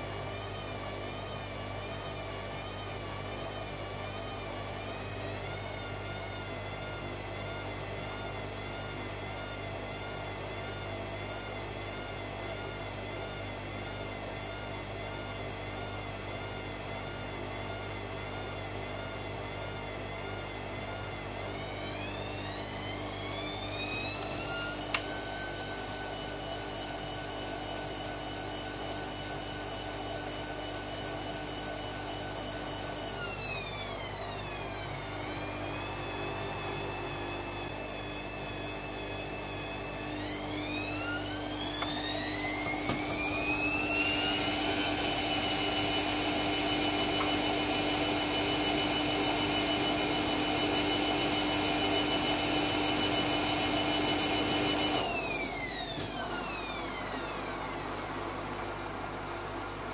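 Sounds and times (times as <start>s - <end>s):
washing machine motor whining: 0.0s - 59.9s.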